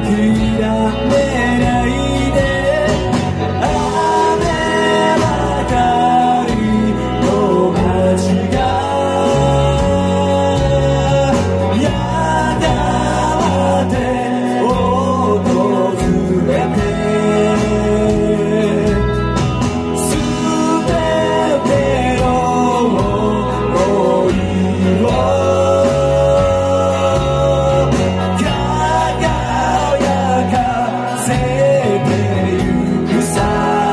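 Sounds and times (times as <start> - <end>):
bass guitar: 0.0 - 33.9
drum kit beat: 0.0 - 33.9
electric guitar: 0.0 - 33.9
man singing: 0.0 - 33.9.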